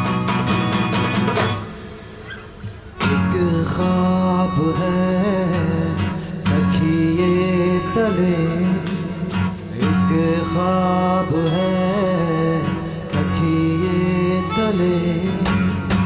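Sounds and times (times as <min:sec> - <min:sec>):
strummed acoustic guitars: 0:00.0 - 0:16.0
man singing: 0:03.0 - 0:16.0.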